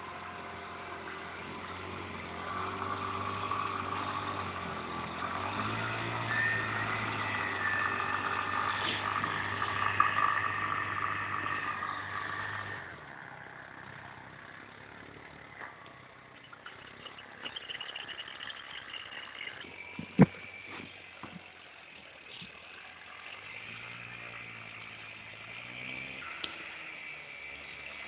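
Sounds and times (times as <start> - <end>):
small engine running and revving: 0.0 - 28.0.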